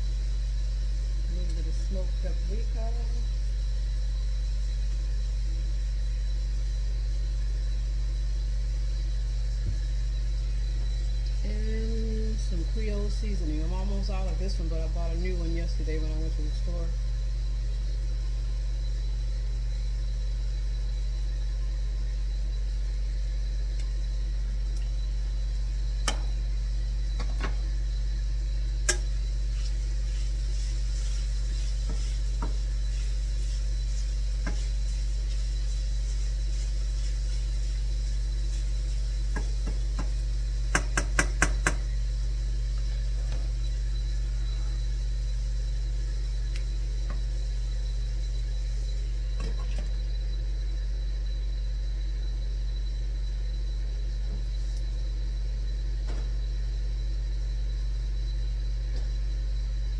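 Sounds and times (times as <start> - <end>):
countertop grill humming: 0.0 - 59.9.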